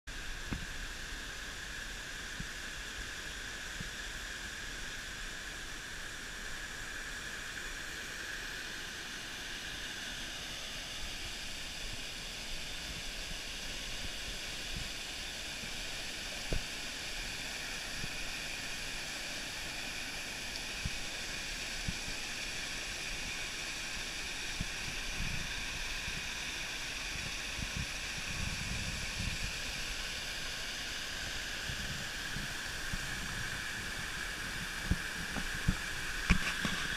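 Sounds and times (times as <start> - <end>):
waterfall rushing over rocks: 0.1 - 36.9.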